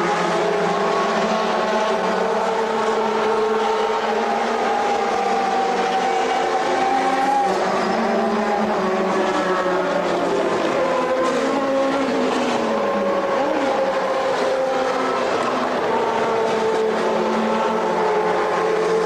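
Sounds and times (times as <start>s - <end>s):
racing car engines running: 0.0s - 19.0s.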